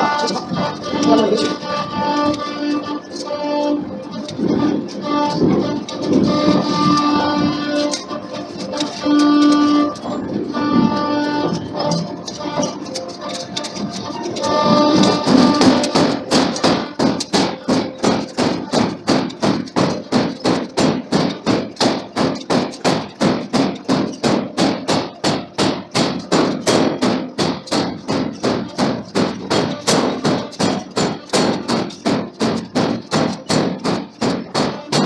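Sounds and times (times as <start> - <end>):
forging hammer striking hot steel: 4.2 - 35.0.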